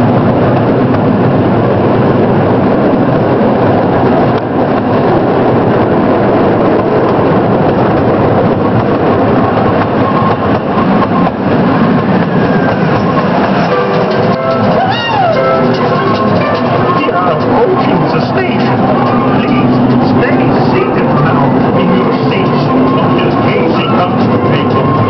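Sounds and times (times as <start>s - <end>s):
ride train wheels rumbling on rails: 0.0s - 25.0s.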